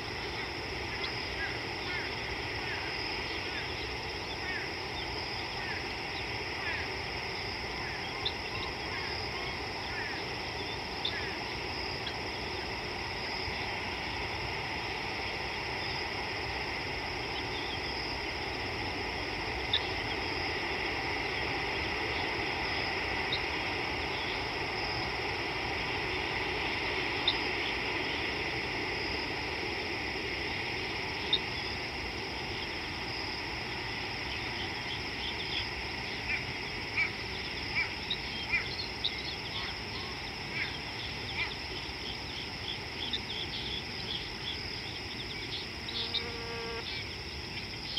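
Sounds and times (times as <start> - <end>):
even hiss: 0.0 - 47.9
high insect drone: 0.0 - 47.9.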